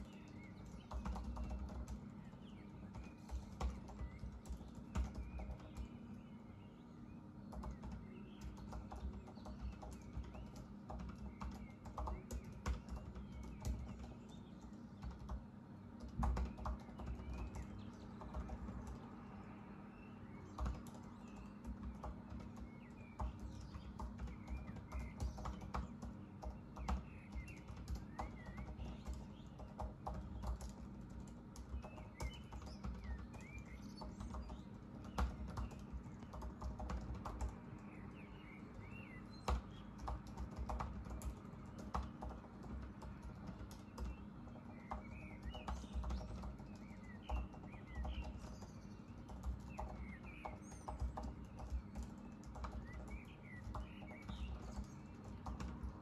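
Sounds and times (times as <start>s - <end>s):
laptop keyboard typing: 0.0s - 6.3s, 7.4s - 19.6s, 20.2s - 56.0s
small birds chirping: 0.0s - 56.0s.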